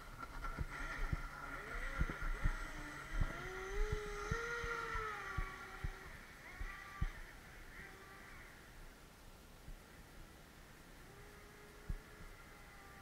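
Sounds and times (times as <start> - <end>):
rc boat motor whining: 0.0 - 8.8, 11.0 - 13.0.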